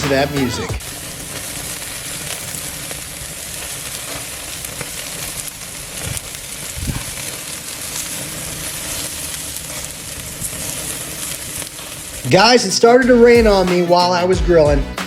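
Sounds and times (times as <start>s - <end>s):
chicken sizzling on a grill: 0.0s - 14.8s.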